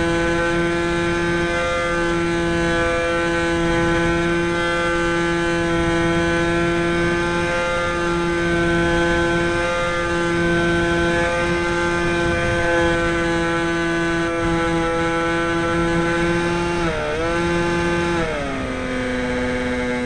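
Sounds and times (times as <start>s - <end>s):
electric motor and propeller drone: 0.0s - 20.0s.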